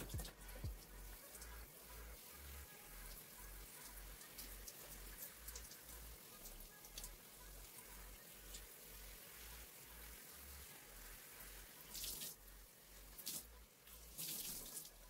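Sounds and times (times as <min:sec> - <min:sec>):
water spattering and dripping: 0:00.0 - 0:15.0.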